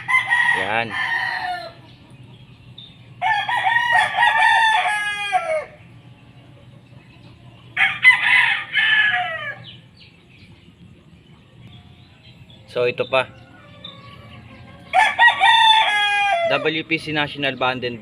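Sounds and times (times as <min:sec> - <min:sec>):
roosters crowing: 0:00.0 - 0:18.0.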